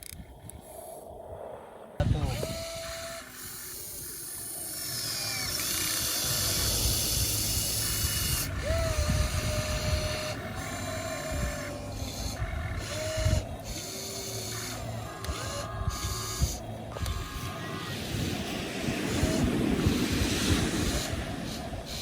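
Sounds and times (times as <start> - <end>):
loud steady hiss: 0.6 - 22.0
small electric motors whining: 2.0 - 22.0.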